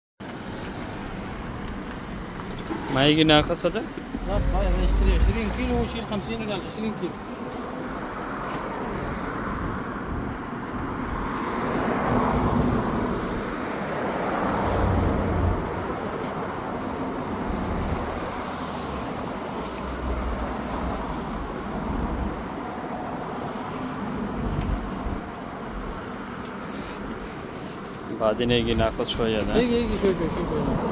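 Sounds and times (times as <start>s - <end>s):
road traffic rumble: 0.2s - 30.9s.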